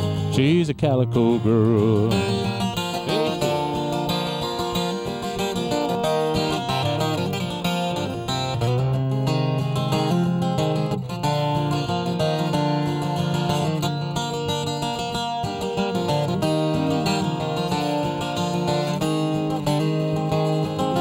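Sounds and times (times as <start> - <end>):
twelve-string acoustic guitar strumming: 0.0 - 21.0.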